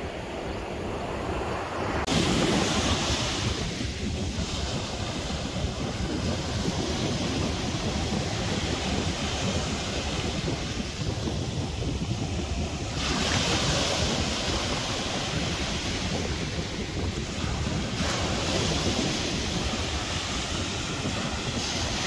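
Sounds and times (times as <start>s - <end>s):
sea waves washing: 0.0s - 22.0s
wind buffeting microphone: 0.0s - 22.0s.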